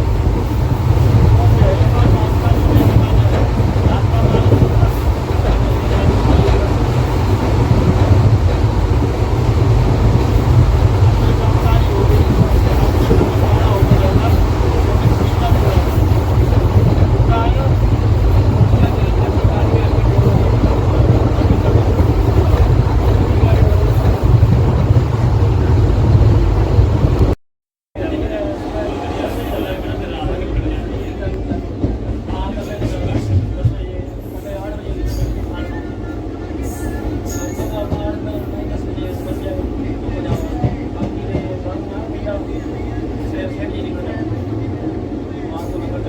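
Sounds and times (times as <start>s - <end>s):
train wheels rumbling on track: 0.0s - 27.4s, 28.0s - 46.0s.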